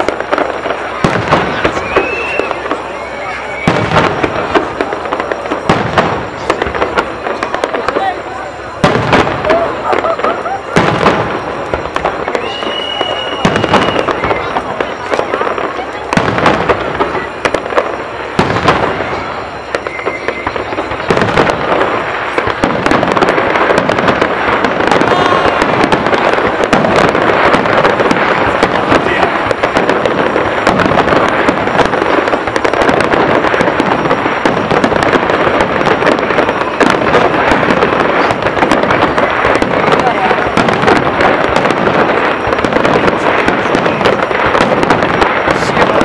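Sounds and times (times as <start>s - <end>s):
fireworks bursting and crackling: 0.0s - 46.0s.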